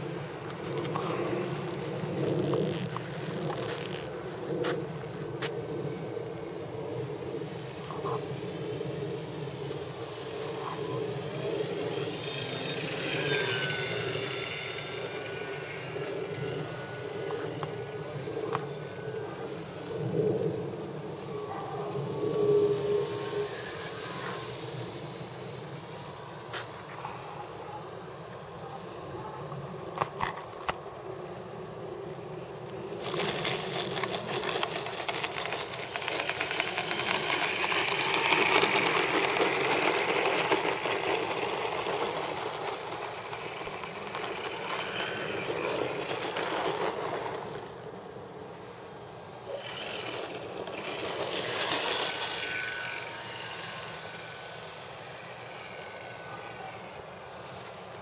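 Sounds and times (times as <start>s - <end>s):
model plane propeller buzzing past: 0.0s - 30.4s, 31.0s - 58.0s.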